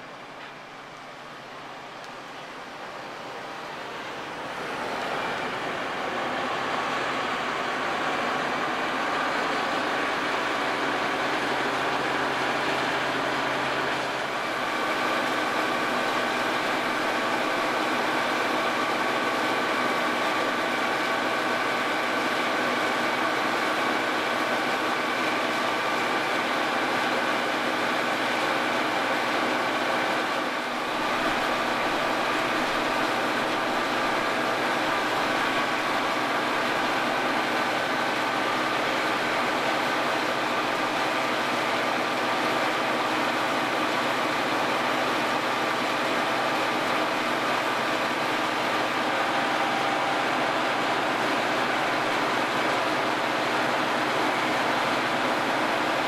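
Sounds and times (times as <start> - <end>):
combine harvester mechanical drone: 0.0 - 56.0.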